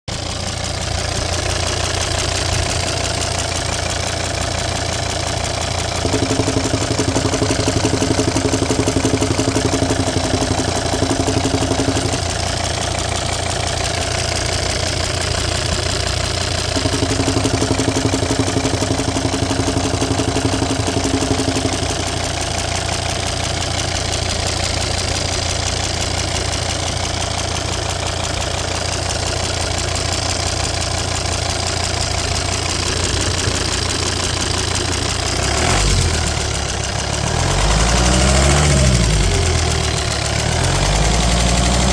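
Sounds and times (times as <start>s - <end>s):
diesel engine idling with popping: 0.1s - 41.9s.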